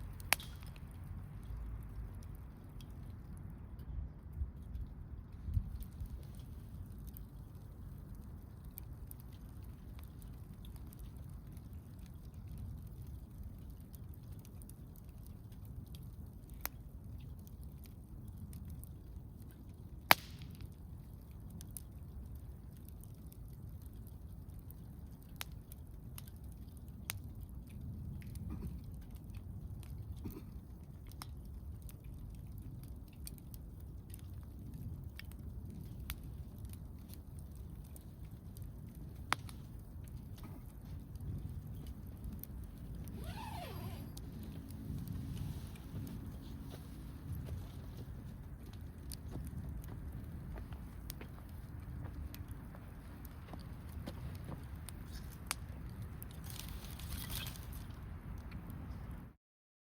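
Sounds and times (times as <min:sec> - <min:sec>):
campfire crackling and popping: 0:00.0 - 0:59.4
low steady rumble: 0:00.0 - 0:59.4.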